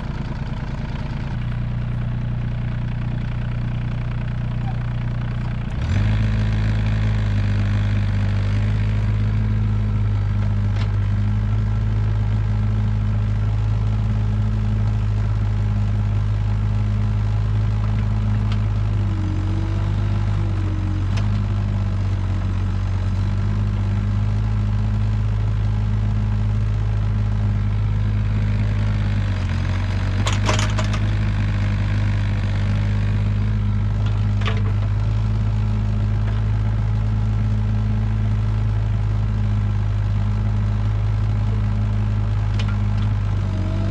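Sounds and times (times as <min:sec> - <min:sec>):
excavator engine running: 0:00.0 - 0:43.9.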